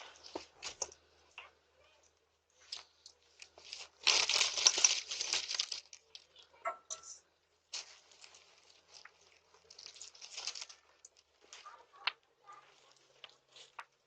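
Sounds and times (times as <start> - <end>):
candy wrappers crinkling: 0.0 - 6.6, 7.6 - 14.0.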